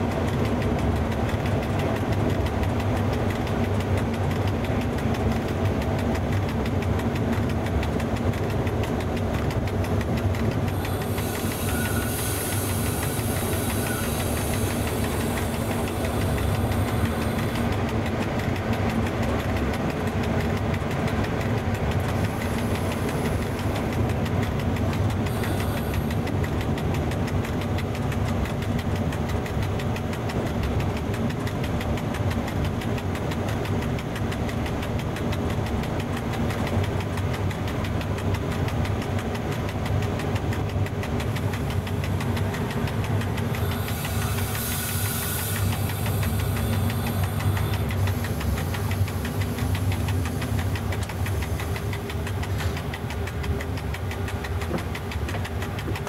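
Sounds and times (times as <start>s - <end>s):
locomotive cab rumble: 0.0s - 56.0s.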